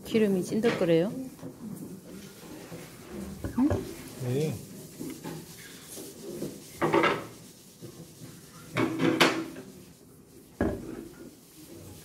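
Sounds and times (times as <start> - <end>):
pad wiping wooden board: 2.2 - 12.0.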